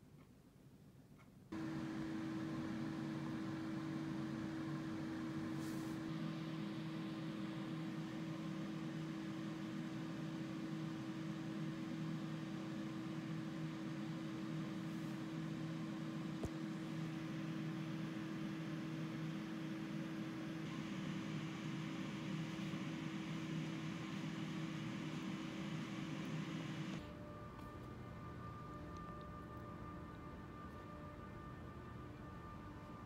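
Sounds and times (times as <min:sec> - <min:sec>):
steady machine hum: 0:01.4 - 0:33.0.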